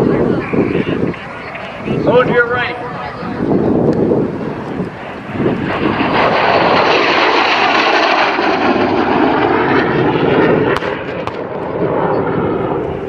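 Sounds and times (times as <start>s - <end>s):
jet fighter flying past: 0.0s - 13.0s.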